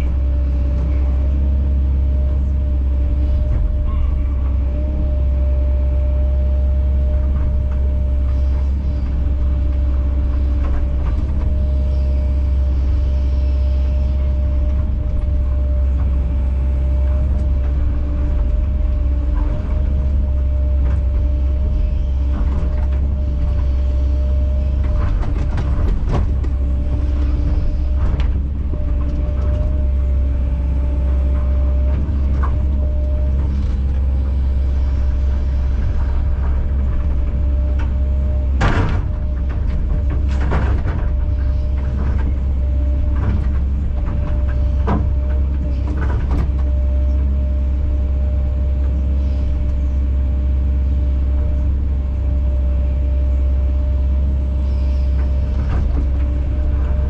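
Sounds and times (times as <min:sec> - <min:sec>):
excavator diesel engine drone: 0:00.0 - 0:57.0.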